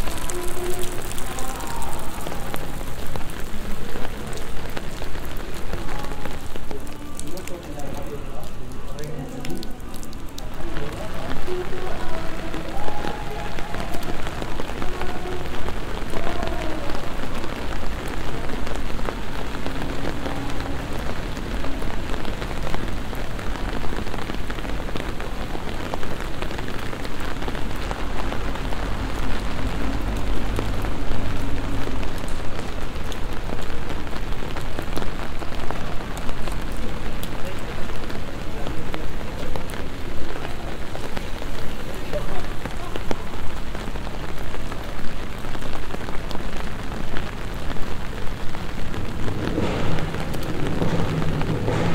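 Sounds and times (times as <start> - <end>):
rain falling on stone paving: 0.0 - 51.9.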